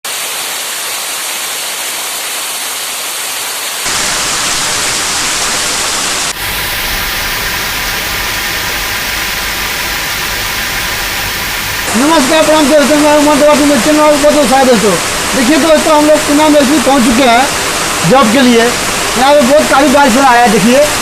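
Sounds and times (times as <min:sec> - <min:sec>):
heavy rain hissing: 0:00.1 - 0:21.0.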